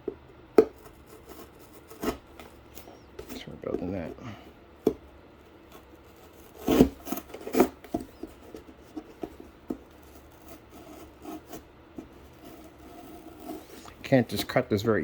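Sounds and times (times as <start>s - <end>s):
cardboard scraping and rubbing: 0.7s - 4.1s, 5.4s - 14.9s.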